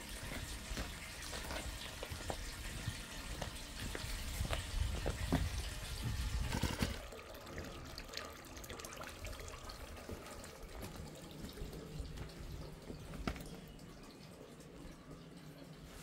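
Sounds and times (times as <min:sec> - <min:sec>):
water dripping: 0:00.0 - 0:16.0
water running and trickling: 0:00.0 - 0:16.0.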